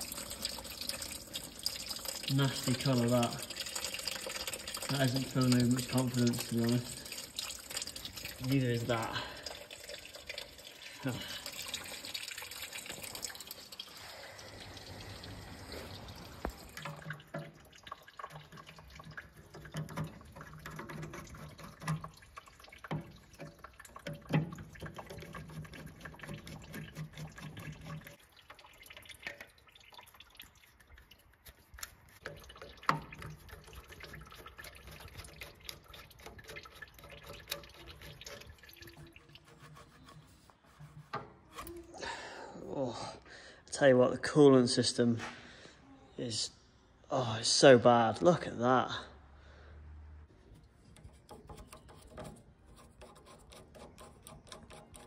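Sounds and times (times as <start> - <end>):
coolant trickling and dripping: 0.0 - 44.8, 49.3 - 55.0.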